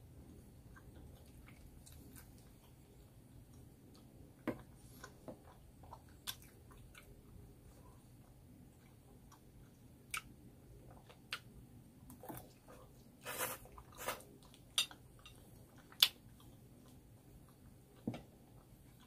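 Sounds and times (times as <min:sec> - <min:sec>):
person chewing noodles: 0:00.3 - 0:11.5, 0:12.1 - 0:19.0.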